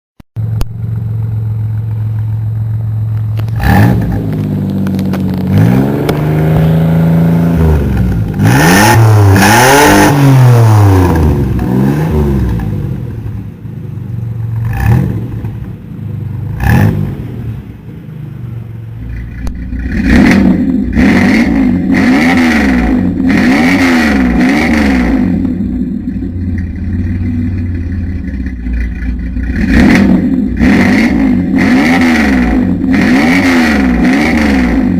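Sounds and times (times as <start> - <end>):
car engine idling and revving: 0.4 - 34.9.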